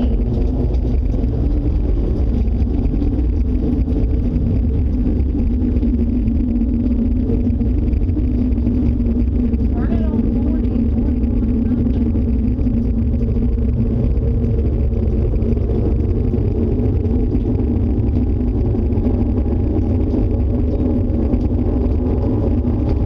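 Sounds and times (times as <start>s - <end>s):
storm rumble with hum: 0.0s - 23.0s.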